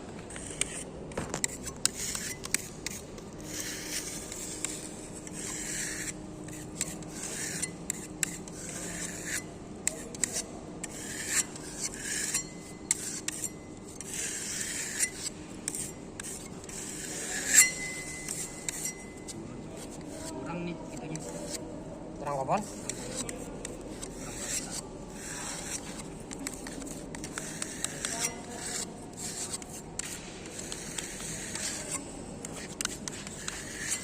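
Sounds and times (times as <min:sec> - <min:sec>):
hand tool scraping concrete: 0:00.3 - 0:20.4, 0:22.6 - 0:34.0.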